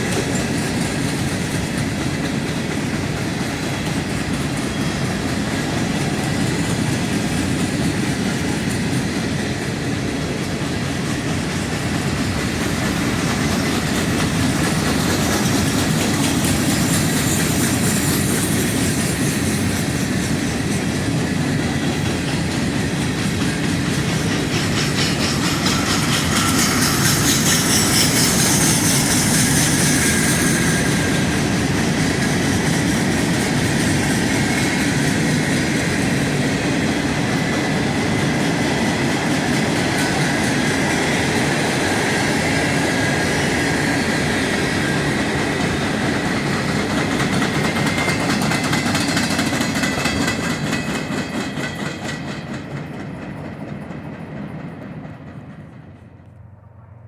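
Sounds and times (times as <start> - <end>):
train wheels clattering on rails: 0.0 - 56.5.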